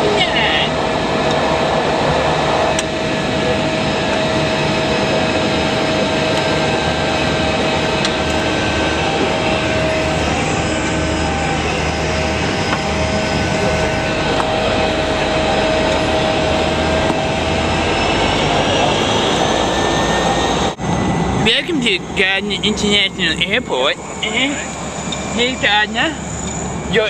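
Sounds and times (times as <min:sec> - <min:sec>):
turboprop engine inside cabin: 0:00.0 - 0:27.0.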